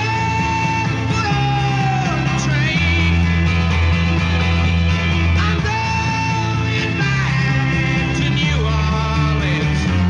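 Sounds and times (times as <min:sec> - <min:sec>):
rock music with singing: 0:00.0 - 0:10.0
steady bass line: 0:00.0 - 0:10.0.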